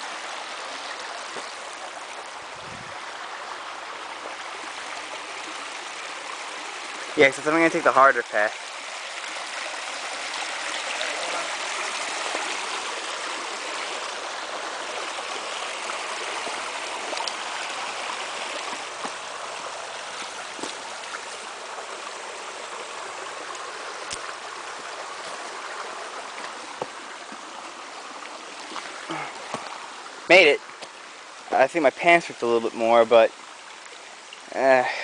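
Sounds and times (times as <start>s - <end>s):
stream water flowing: 0.0s - 35.0s.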